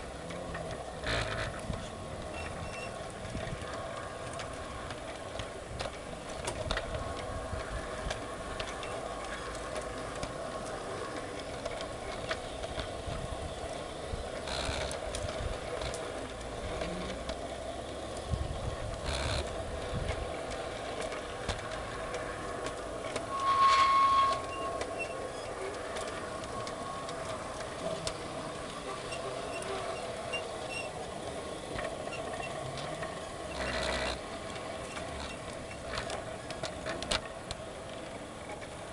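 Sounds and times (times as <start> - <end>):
model train motor drone: 0.0 - 38.9
wheels clicking over rails: 0.0 - 38.9.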